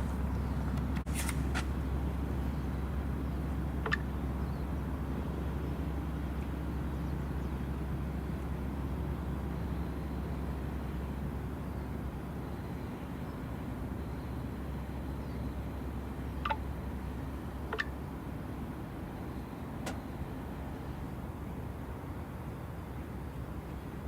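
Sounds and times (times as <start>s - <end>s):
low engine rumble: 0.0s - 24.0s.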